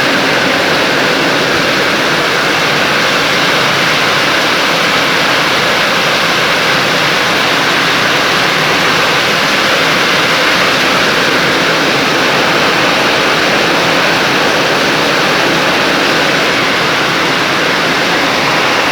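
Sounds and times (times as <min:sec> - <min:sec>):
rushing water roar: 0:00.0 - 0:18.9.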